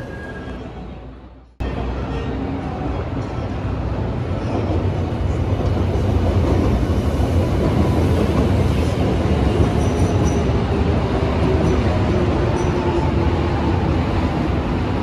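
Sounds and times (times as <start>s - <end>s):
subway train rumbling on rails: 0.0s - 15.0s.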